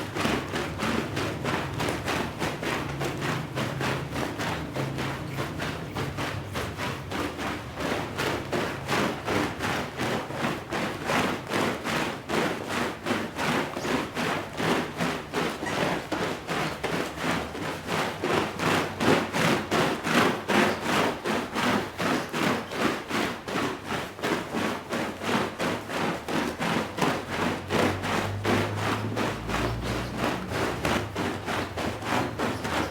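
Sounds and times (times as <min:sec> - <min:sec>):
brush scrubbing wet rug: 0:00.0 - 0:32.9.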